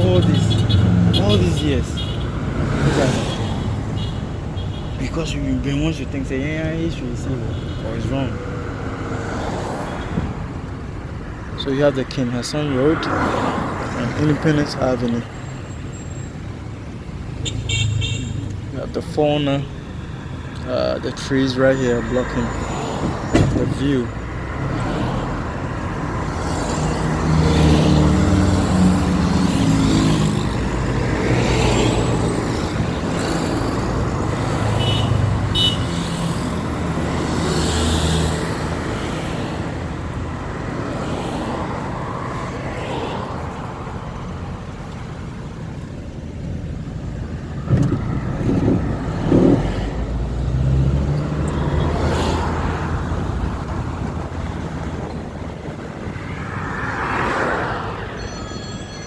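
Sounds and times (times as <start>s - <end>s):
vehicles passing: 0.0s - 59.0s.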